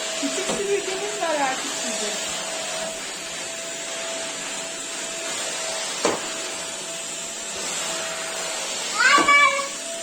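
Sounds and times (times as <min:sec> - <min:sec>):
small vacuum cleaner running: 0:00.0 - 0:10.0.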